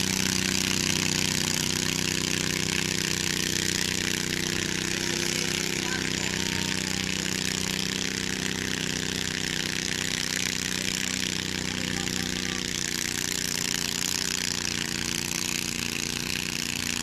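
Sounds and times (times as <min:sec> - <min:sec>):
garden tractor engine revving: 0:00.0 - 0:17.0.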